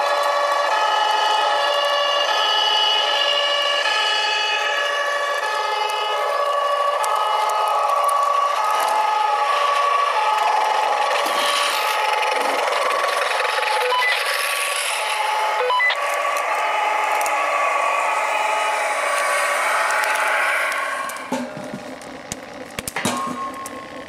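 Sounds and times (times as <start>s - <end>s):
two-tone siren: 0.0s - 24.0s
toy motors whining and grinding: 4.2s - 24.0s.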